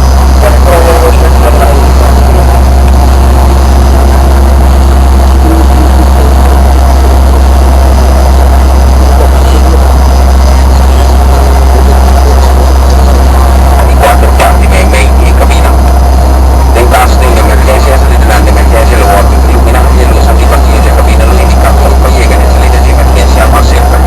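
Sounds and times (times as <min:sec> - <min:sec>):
airliner cabin drone: 0:00.0 - 0:24.0
faint steady tones: 0:00.0 - 0:24.0.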